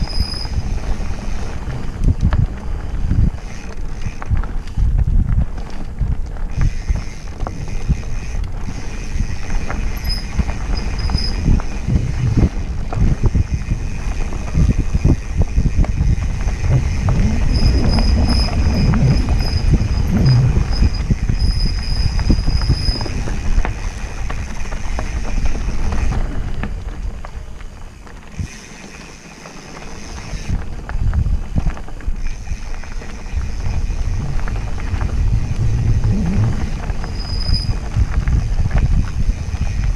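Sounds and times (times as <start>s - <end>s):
wind buffeting microphone: 0.0s - 28.6s, 30.2s - 39.9s
bike rattling and clicking: 0.0s - 39.9s
bike tyres rolling on dirt: 0.0s - 39.9s.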